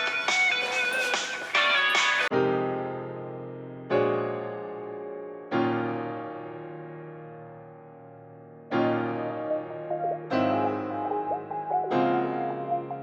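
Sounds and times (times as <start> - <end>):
slow electric piano chords: 2.3 - 13.0.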